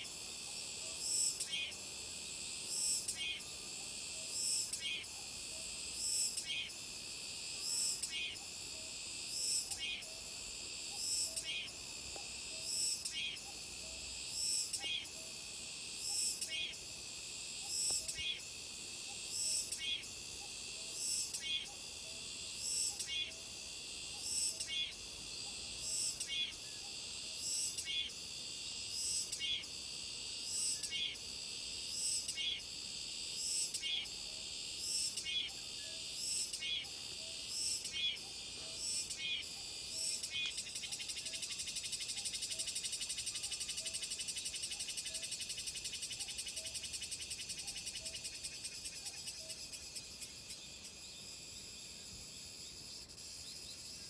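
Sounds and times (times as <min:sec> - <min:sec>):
cicadas singing: 0:00.0 - 0:54.0.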